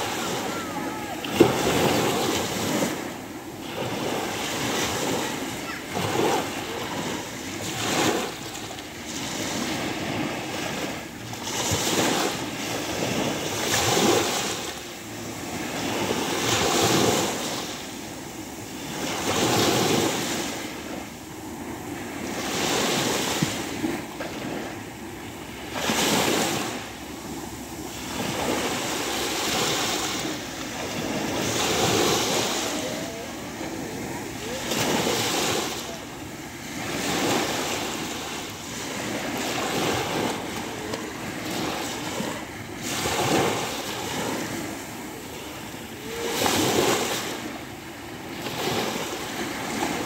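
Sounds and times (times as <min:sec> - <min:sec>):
small waves breaking on shore: 0:00.0 - 0:50.0.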